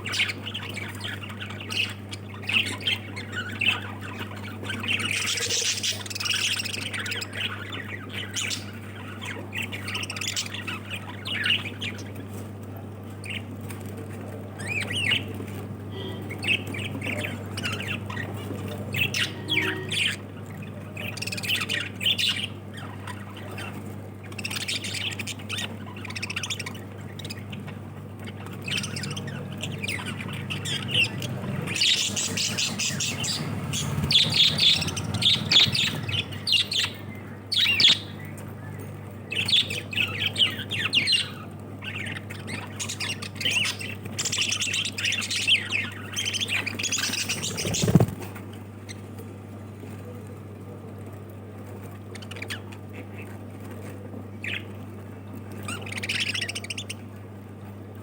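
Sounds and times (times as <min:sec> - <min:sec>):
lovebirds squawking and chattering: 0:00.0 - 0:58.0
steady low hum: 0:00.0 - 0:58.0.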